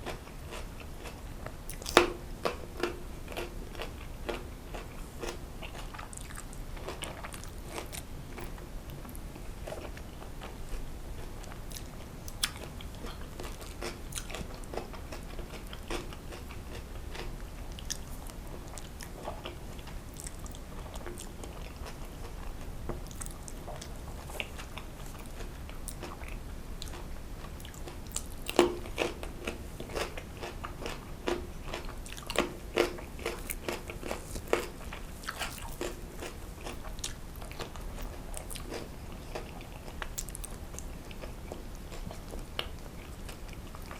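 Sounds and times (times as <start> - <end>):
person chewing: 0.0 - 43.9.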